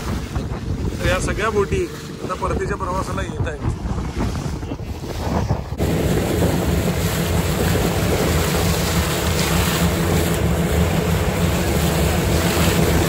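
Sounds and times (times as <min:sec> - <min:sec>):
boat engine low hum: 0:00.0 - 0:13.0
rushing wind: 0:00.0 - 0:13.0
water noise: 0:00.0 - 0:13.0.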